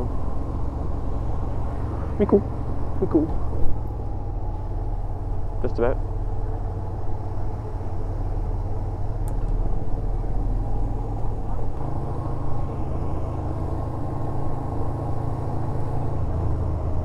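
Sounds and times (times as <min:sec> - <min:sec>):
heavy low rumble: 0:00.0 - 0:17.0
motorcycle engine running: 0:00.0 - 0:17.0.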